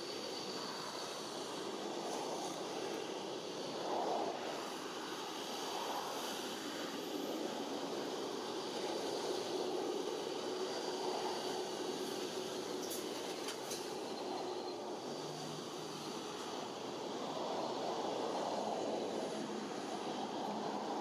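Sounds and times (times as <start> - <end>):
rushing outdoor noise: 0.0 - 21.0.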